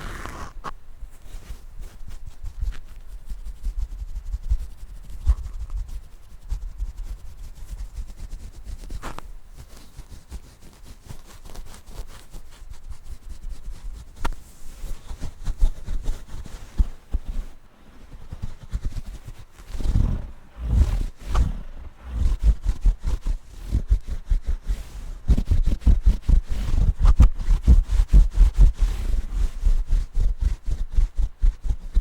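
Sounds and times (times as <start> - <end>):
scratching on microphone: 0.0 - 32.0.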